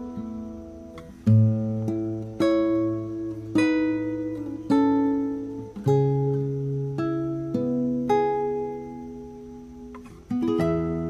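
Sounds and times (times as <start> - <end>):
guitar plucking slow chords: 0.0 - 11.0.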